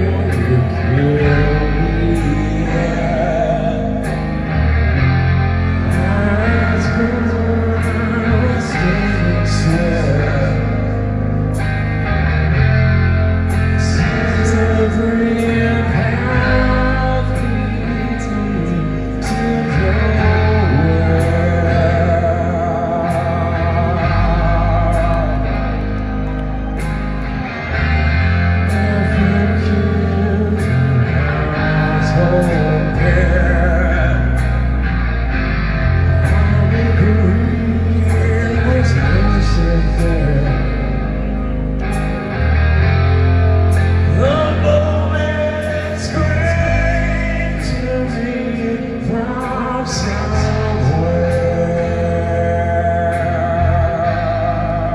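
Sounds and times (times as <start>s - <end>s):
electric guitars: 0.0s - 54.9s
low bass notes: 0.0s - 54.9s
person singing lead vocal: 0.0s - 54.9s.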